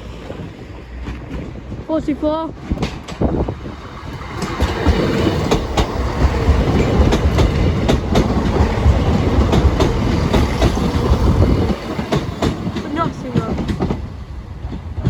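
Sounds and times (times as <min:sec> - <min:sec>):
train rumbling past: 0:00.0 - 0:15.0
wheels clacking on rail joints: 0:00.1 - 0:15.0.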